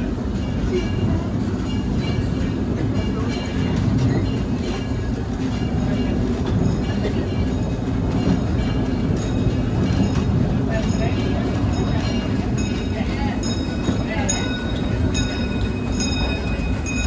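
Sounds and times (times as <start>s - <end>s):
steam train rumbling on track: 0.0s - 17.0s.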